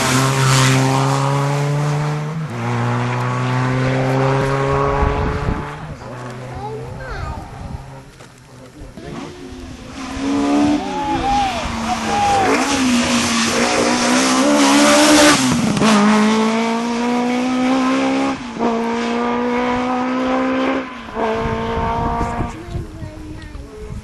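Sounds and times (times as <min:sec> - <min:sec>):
car engine accelerating with upshifts: 0:00.0 - 0:24.0.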